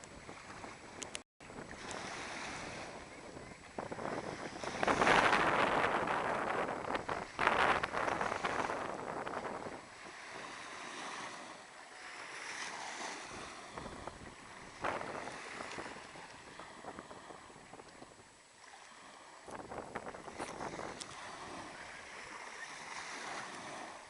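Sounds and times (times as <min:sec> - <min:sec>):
waves washing onto sandy beach: 0:00.0 - 0:24.0
wind noise on microphone: 0:00.0 - 0:24.0.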